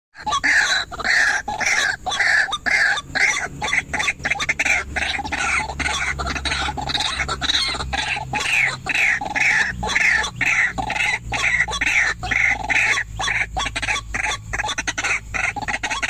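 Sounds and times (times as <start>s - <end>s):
waterhen calling harshly: 0.2s - 16.0s.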